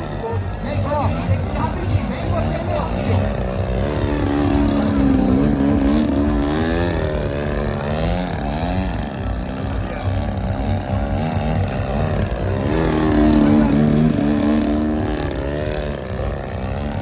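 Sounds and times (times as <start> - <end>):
propeller aircraft engine: 0.0 - 17.0.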